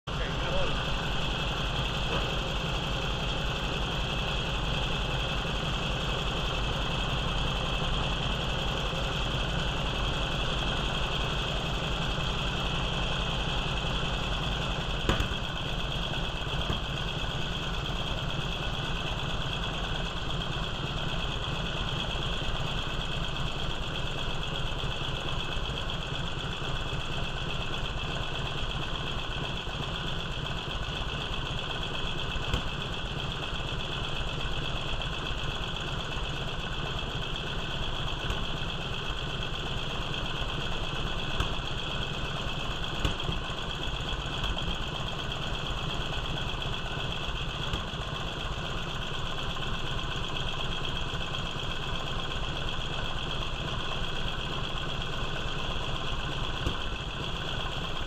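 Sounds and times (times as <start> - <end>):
motorcycle engine idling: 0.1 - 58.0.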